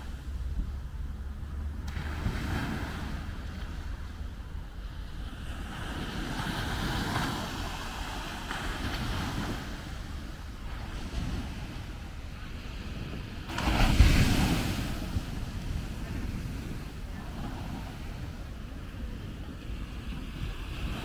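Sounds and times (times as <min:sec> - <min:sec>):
waves washing up beach: 0:00.0 - 0:21.0
wind buffeting microphone: 0:00.0 - 0:21.0.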